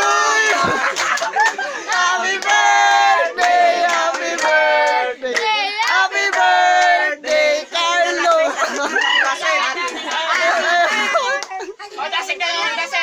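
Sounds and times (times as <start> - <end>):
young men yelling and chanting: 0.0 - 11.3.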